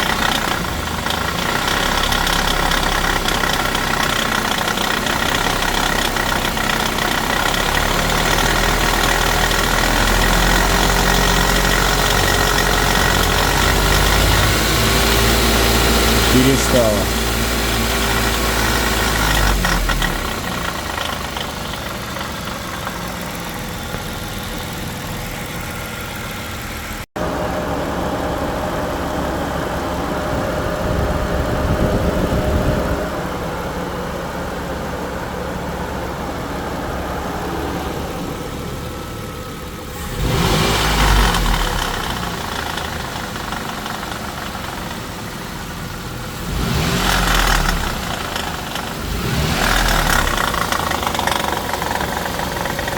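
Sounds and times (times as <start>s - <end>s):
engine revving: 0.0s - 27.1s, 37.2s - 52.9s
car engine idling: 0.0s - 52.9s.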